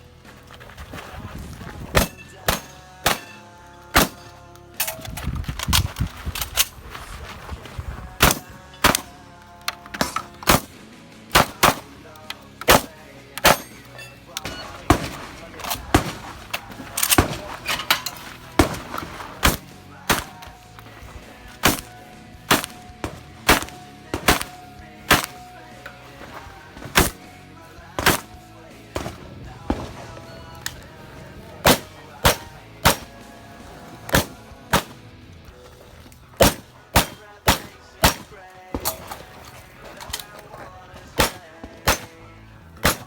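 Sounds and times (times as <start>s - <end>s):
shotgun shots: 1.9s - 5.1s, 8.1s - 9.3s, 9.9s - 35.2s, 36.4s - 43.0s.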